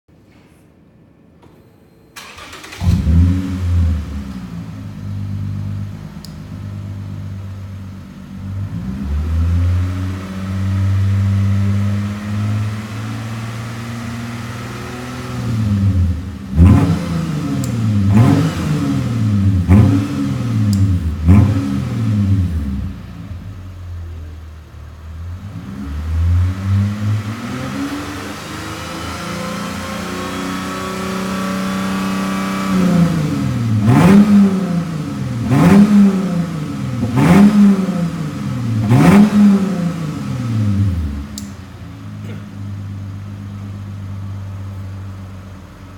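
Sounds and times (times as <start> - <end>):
car exhaust revving: 2.7 - 45.9.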